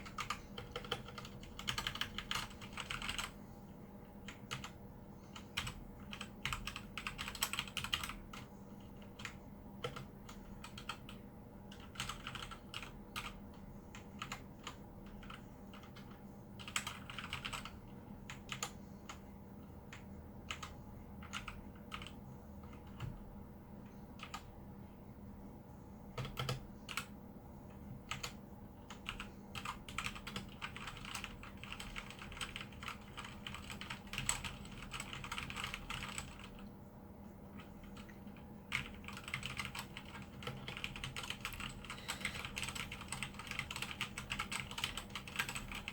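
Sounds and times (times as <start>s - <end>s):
mechanical keyboard typing: 0.0s - 3.4s, 4.2s - 4.8s, 5.6s - 8.5s, 9.1s - 19.2s, 19.9s - 23.1s, 24.2s - 24.5s, 26.2s - 27.1s, 28.1s - 36.7s, 37.8s - 45.9s
faint steady hum: 0.0s - 45.9s.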